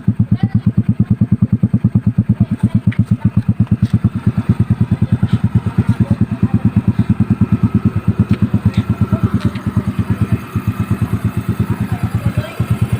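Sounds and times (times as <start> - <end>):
scooter engine idling: 0.0 - 12.9.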